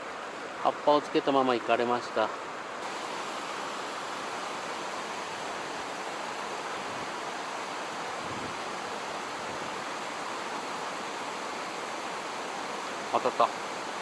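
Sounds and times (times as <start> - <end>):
stream water rushing over rocks: 0.0 - 14.0.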